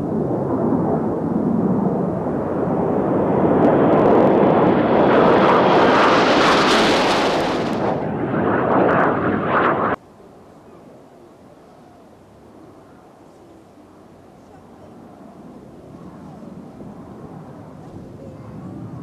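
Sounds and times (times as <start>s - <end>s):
jets passing overhead: 0.0s - 11.3s, 12.2s - 19.0s.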